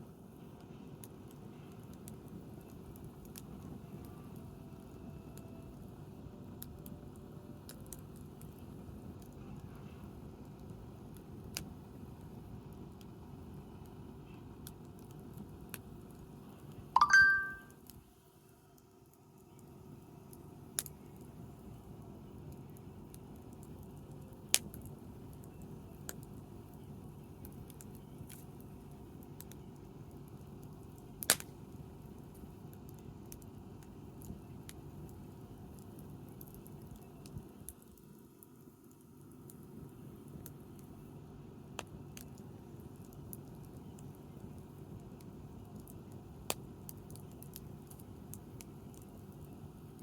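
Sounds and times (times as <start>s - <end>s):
campfire burning: 0.0s - 16.9s, 17.8s - 50.0s
crackling pops from burning wood: 1.0s - 4.0s, 6.5s - 16.7s, 20.3s - 41.0s, 41.6s - 50.0s.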